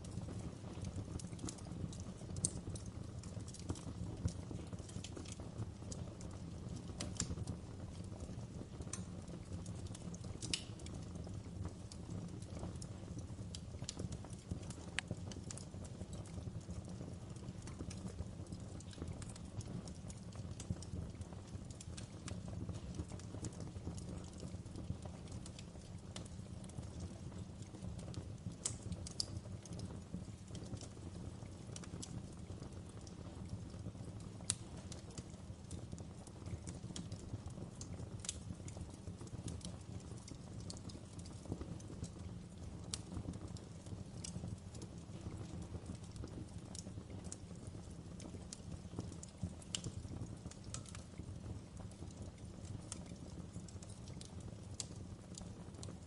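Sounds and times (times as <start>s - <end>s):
low rumble of burning: 0.0s - 56.0s
wood fire crackling: 0.0s - 56.0s.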